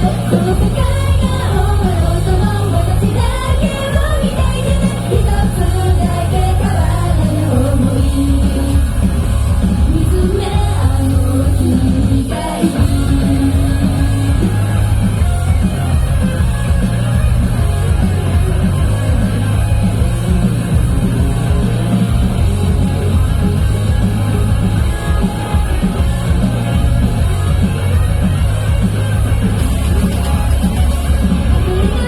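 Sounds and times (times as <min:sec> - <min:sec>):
rock band playing loud: 0:00.0 - 0:32.0.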